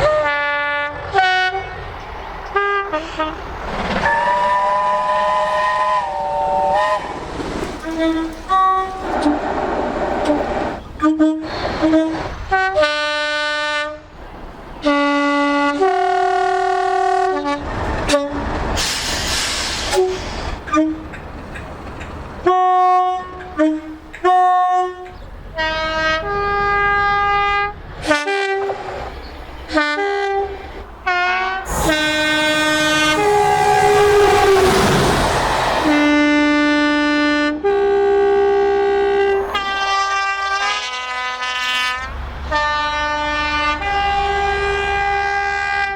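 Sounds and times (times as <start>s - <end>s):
train horns blasting: 0.0s - 7.2s, 7.8s - 14.2s, 14.8s - 19.0s, 19.7s - 21.2s, 22.4s - 28.9s, 29.7s - 45.9s
trains passing at speed: 0.0s - 45.9s.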